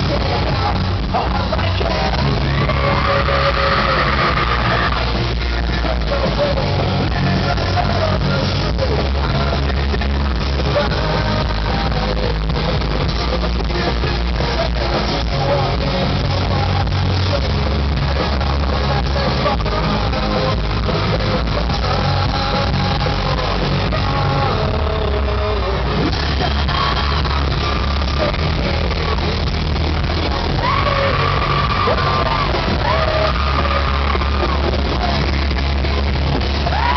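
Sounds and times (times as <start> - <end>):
live rock band playing: 0.0 - 36.9
person singing: 0.0 - 36.9.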